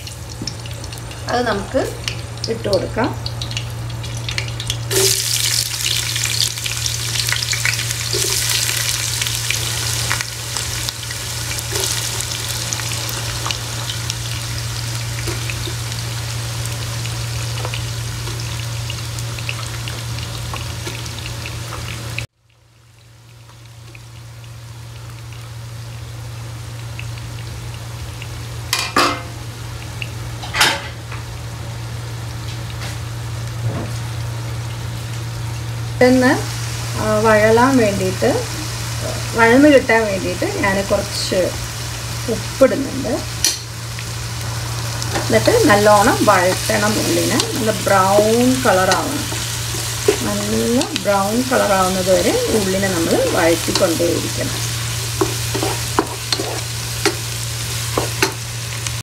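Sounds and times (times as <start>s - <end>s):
onions sizzling in a pan: 0.0s - 59.0s.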